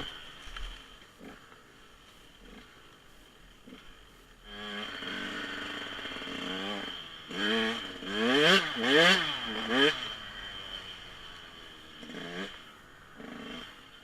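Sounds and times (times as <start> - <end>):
dirt bike engine idling and revving: 0.0 - 14.0.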